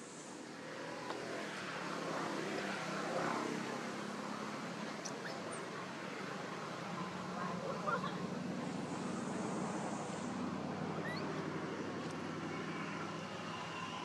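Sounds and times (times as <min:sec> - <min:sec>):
passing motor vehicle: 0:00.0 - 0:14.0.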